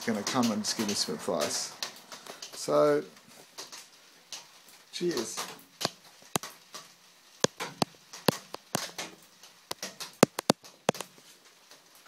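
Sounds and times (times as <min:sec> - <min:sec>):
rain dripping on roof: 0:00.0 - 0:12.0.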